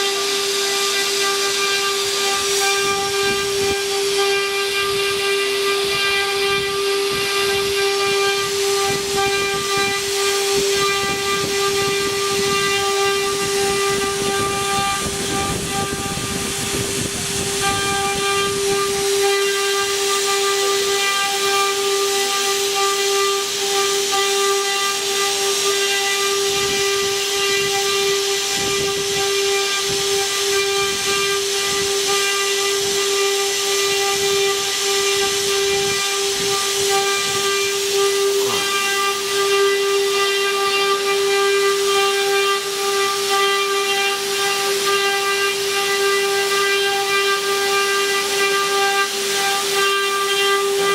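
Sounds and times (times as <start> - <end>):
bits cutting wood: 0.0 - 50.9
router spindles whining: 0.0 - 50.9.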